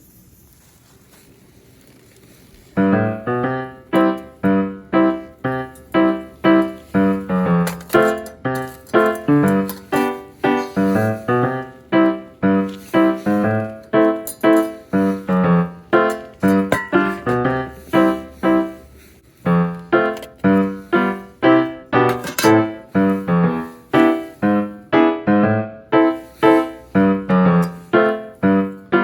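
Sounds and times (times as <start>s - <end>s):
piano music: 2.7s - 29.0s.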